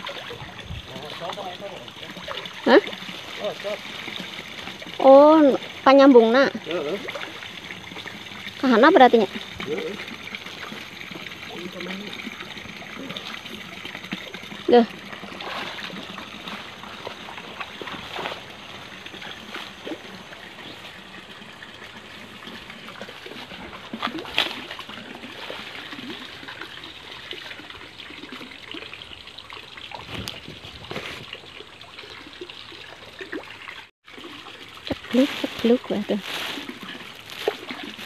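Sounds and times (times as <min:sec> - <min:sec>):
water splashes: 0:00.0 - 0:38.0
water trickling into pond: 0:00.0 - 0:38.0.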